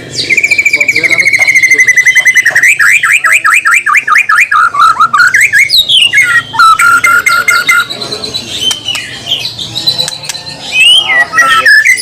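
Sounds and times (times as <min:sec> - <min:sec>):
bird singing sweeping notes: 0:00.0 - 0:12.0.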